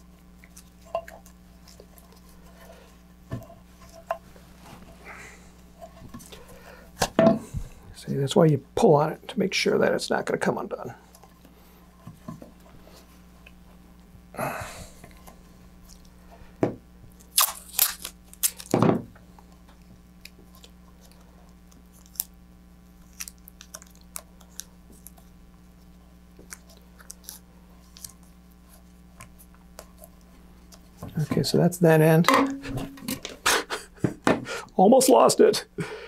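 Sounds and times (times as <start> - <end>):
faint low hum: 0.0 - 36.0.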